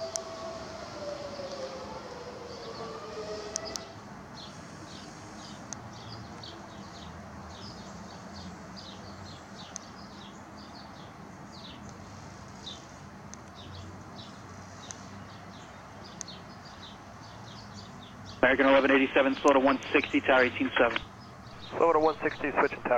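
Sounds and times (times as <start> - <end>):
small birds chirping: 4.4 - 22.9.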